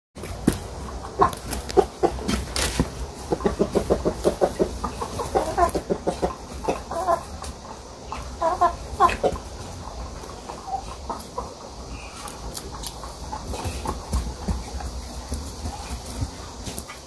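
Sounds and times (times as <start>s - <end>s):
chickens clucking: 0.2s - 17.0s.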